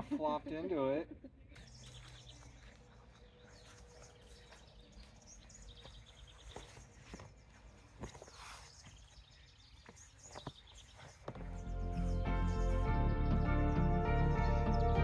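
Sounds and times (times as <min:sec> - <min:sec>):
small birds chirping: 0:00.7 - 0:15.0.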